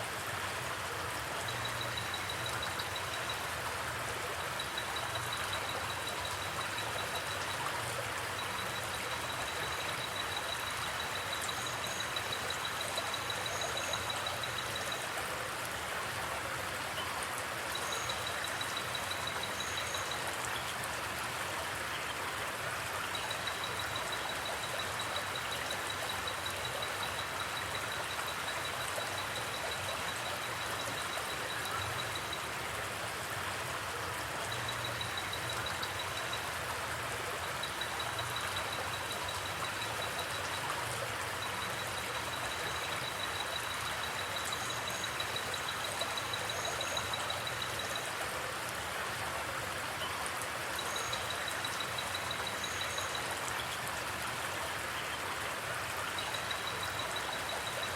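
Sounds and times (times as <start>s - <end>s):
creek water flowing over rocks: 0.0s - 57.9s.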